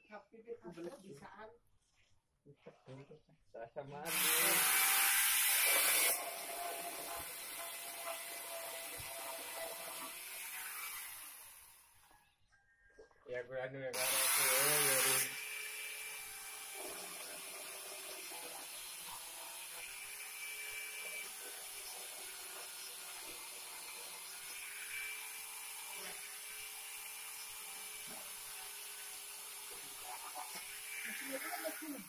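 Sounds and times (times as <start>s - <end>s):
angle grinder whining: 4.1s - 11.9s, 14.0s - 32.0s.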